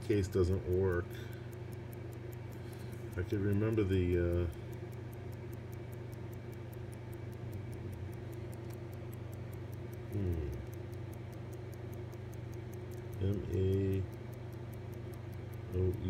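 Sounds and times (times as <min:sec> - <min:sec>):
mechanical watch ticking: 0:00.0 - 0:16.0.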